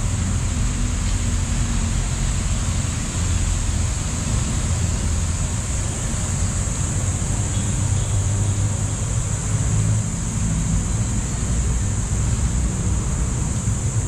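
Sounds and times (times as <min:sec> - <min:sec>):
city traffic rumble: 0:00.0 - 0:14.0
high hiss: 0:00.0 - 0:14.0.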